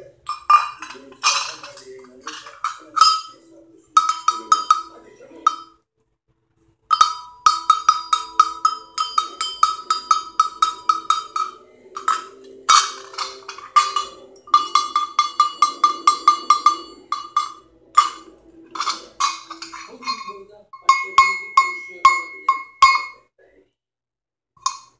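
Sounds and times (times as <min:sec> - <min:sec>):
metal animal bell clanking: 0:00.3 - 0:03.4, 0:04.0 - 0:05.7, 0:06.9 - 0:23.2.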